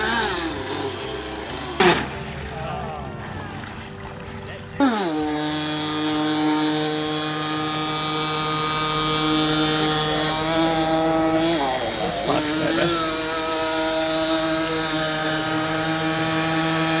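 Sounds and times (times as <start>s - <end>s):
rc boat engine idling: 0.0s - 17.0s.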